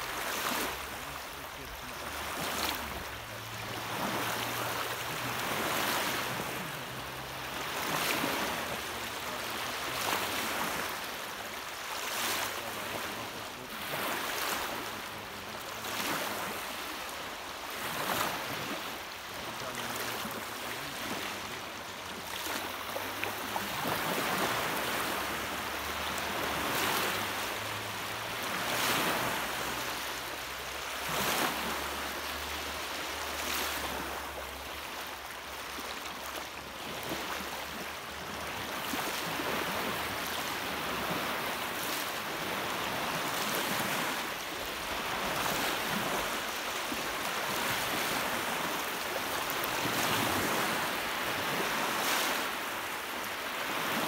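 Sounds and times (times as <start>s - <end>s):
small waves breaking on shore: 0.0s - 54.0s.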